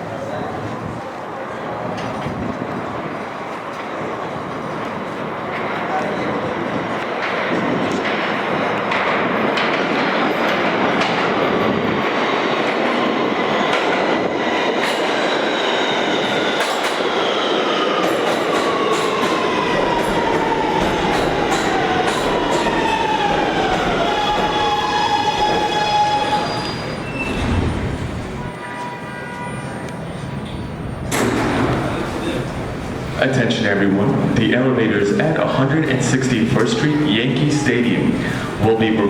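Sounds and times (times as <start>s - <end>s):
wheel and rail noise: 0.0s - 33.2s.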